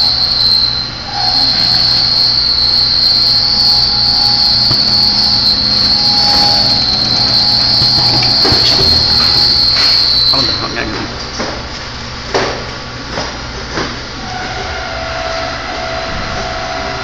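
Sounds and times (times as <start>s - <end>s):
peeling machine hum and whine: 0.0s - 17.0s.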